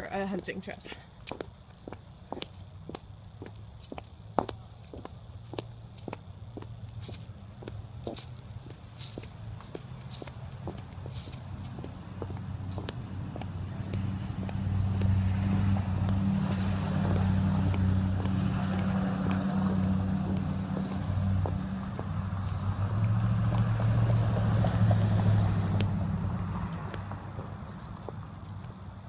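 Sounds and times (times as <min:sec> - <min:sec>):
vehicle engine passing by: 0:05.4 - 0:29.0.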